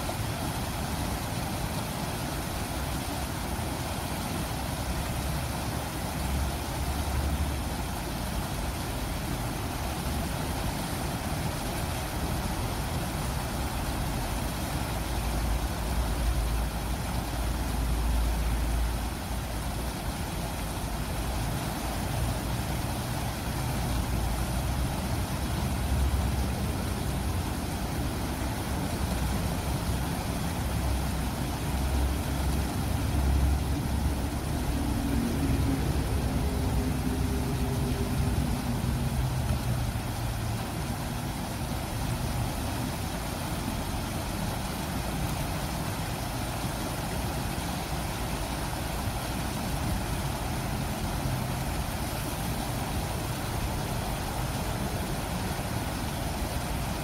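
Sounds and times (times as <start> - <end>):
stream water rushing over rocks: 0.0 - 57.0.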